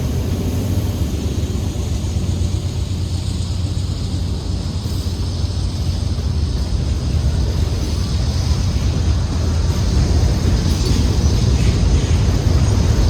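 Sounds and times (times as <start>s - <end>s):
freight train rumbling on rails: 0.0s - 13.0s.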